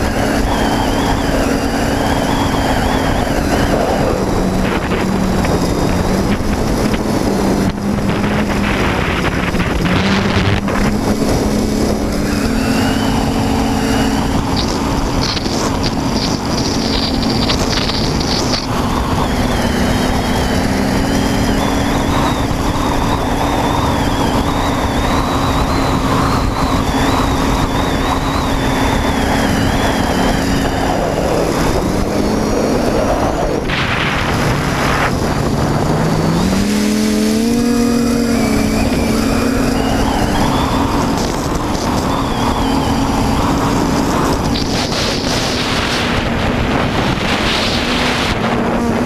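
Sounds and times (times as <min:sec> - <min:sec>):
drone motors and propellers buzzing: 0:00.0 - 0:49.0
wind rushing over microphone: 0:00.0 - 0:49.0.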